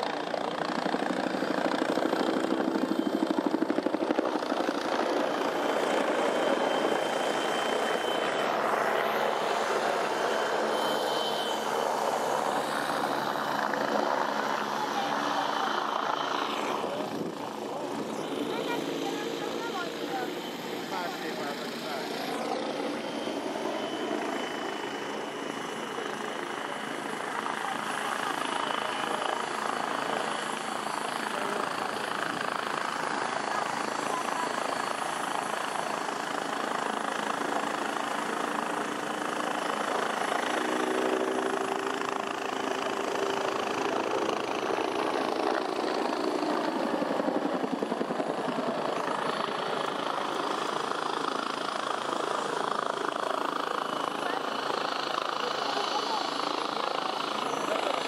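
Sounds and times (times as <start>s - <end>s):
helicopter rotor chopping: 0.0s - 58.0s
high turbine whine: 0.0s - 58.0s.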